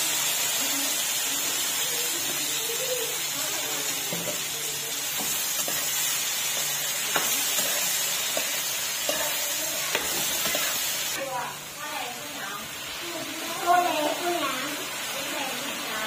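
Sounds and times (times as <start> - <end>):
corn sizzling in a frying pan: 0.0 - 16.0.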